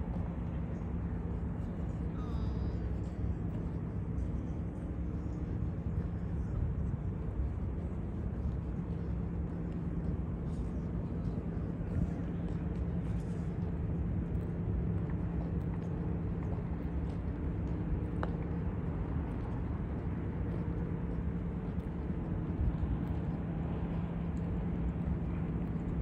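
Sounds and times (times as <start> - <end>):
faint footsteps on pavement: 0.0 - 26.0
low hum of traffic: 0.0 - 26.0.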